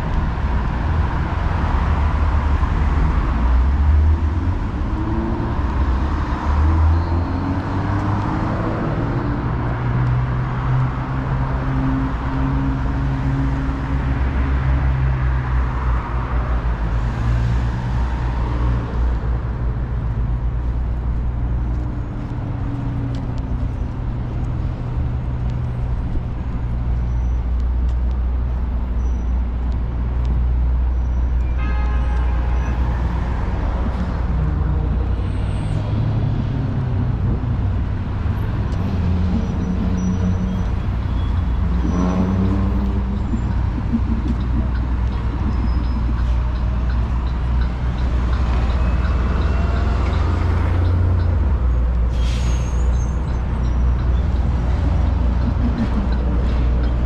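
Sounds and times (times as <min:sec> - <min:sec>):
city street traffic: 0:00.0 - 0:57.0
vehicle engine rumbling: 0:00.0 - 0:57.0.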